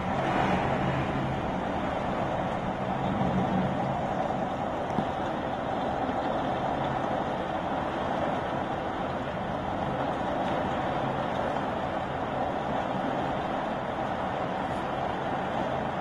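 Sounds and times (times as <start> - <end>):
heavy rain: 0.0 - 16.0
strong wind: 0.0 - 16.0.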